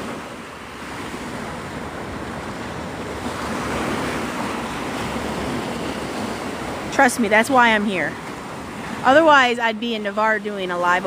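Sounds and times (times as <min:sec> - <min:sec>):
surf washing onto beach: 0:00.0 - 0:11.0
wind rumbling on microphone: 0:00.0 - 0:11.0.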